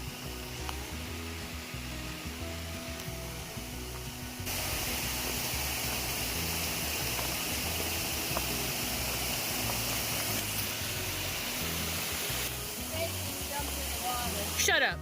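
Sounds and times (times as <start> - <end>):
rushing river water: 0.0 - 14.9
background music with bass line: 0.0 - 15.0.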